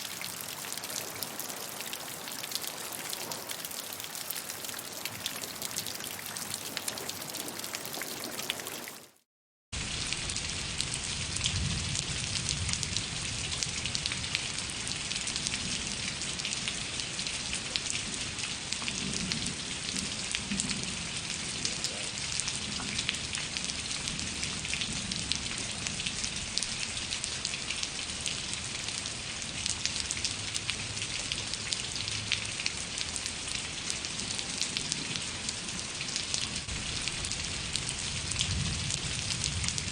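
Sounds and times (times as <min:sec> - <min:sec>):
rain falling: 0:00.0 - 0:09.2, 0:09.8 - 0:39.9.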